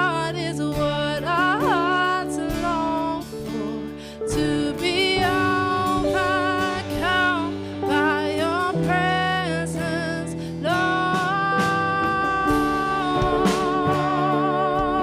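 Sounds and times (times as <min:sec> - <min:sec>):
guitar: 0:00.0 - 0:15.0
person singing with vibrato: 0:00.0 - 0:15.0.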